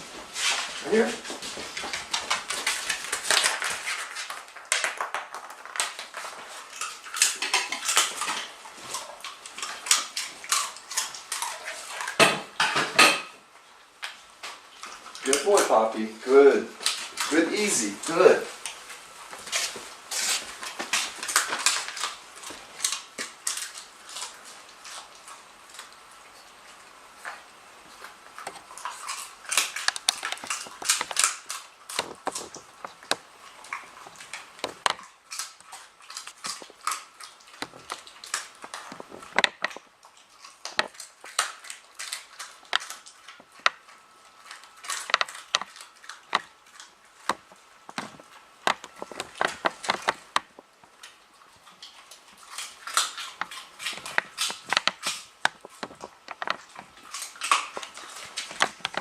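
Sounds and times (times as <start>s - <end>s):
dog chewing toy: 0.0s - 13.0s, 14.0s - 59.0s.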